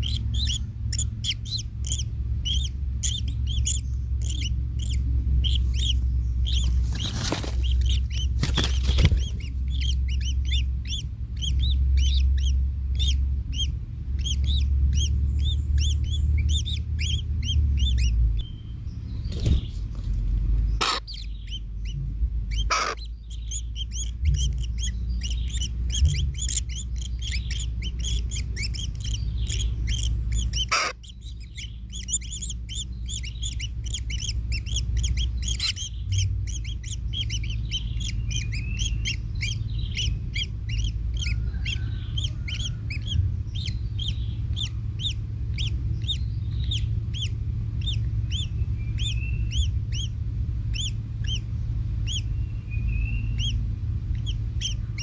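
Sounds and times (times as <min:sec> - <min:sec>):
baby birds chirping: 0:00.0 - 0:55.0
low steady rumble: 0:00.0 - 0:55.0.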